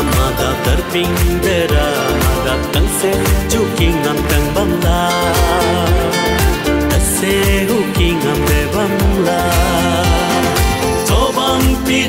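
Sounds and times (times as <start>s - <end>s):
drum beat: 0.0s - 12.0s
upbeat celebration music: 0.0s - 12.0s.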